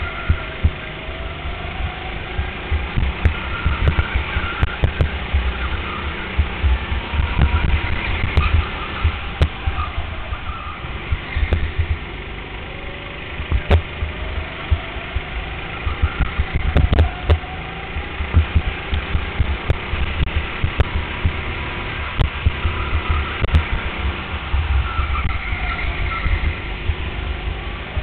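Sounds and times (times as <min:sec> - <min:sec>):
go-kart motor running: 0:00.0 - 0:28.0
heavy rumble: 0:00.0 - 0:28.0.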